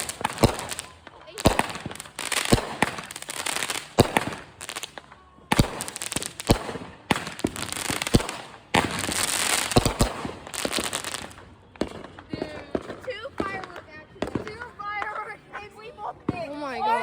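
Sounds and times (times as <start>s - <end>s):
fireworks crackling hiss: 0.0s - 15.0s
fireworks bangs: 0.0s - 15.3s.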